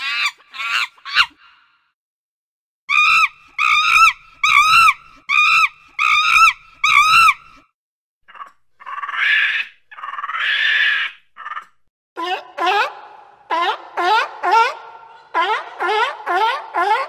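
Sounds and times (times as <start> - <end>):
monkey squealing calls: 0.0 - 1.4, 2.9 - 7.6, 8.3 - 17.0.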